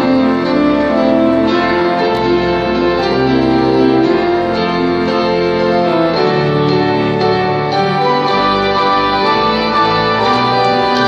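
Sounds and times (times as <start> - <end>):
organ held chords: 0.0 - 11.0
piano notes: 0.0 - 11.0.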